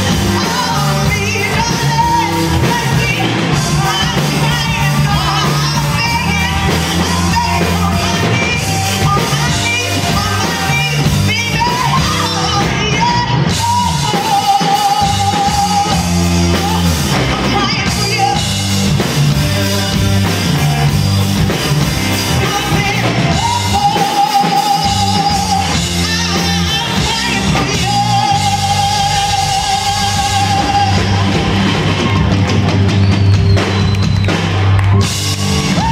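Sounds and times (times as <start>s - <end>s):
woman singing lead vocals: 0.0s - 19.5s, 20.4s - 32.4s
rock band playing: 0.0s - 35.9s.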